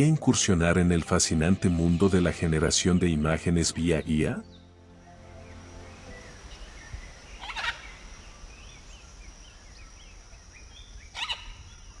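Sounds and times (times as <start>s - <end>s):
small birds chirping: 0.7s - 12.0s
harsh bird calls: 1.2s - 12.0s.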